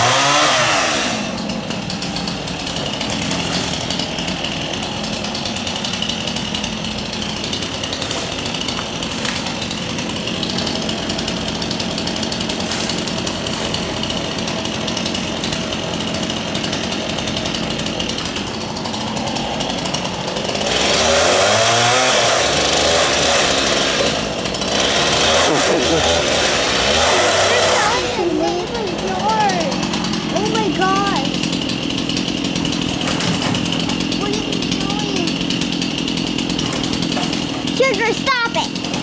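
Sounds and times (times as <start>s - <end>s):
chainsaw running: 0.0s - 39.0s.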